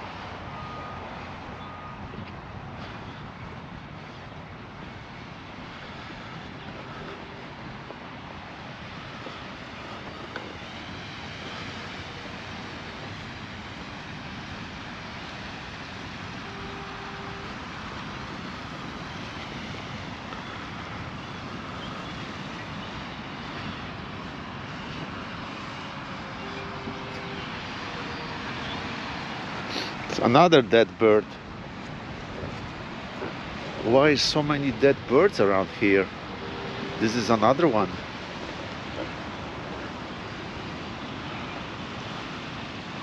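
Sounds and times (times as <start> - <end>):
ocean surf: 0.0 - 43.0
wind: 0.0 - 43.0.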